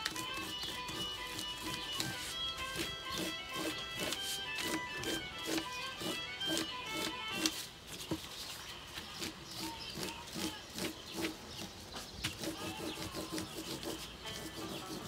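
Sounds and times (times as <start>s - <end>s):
crayon rubbing on paper: 0.0s - 15.0s.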